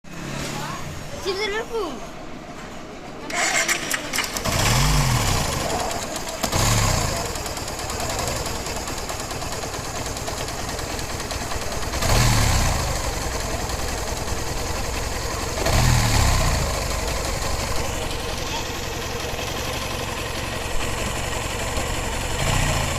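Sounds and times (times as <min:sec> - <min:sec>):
motorcycle engine idling and revving: 0:00.1 - 0:01.2, 0:03.3 - 0:22.9.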